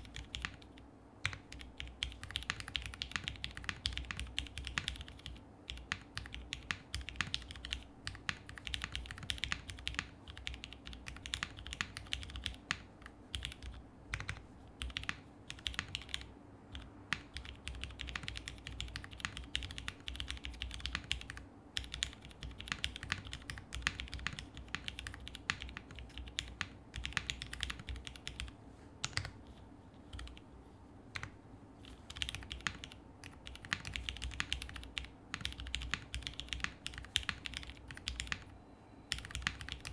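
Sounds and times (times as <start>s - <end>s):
mechanical keyboard typing: 0.0s - 29.4s, 30.0s - 30.4s, 31.1s - 38.5s, 39.1s - 39.9s.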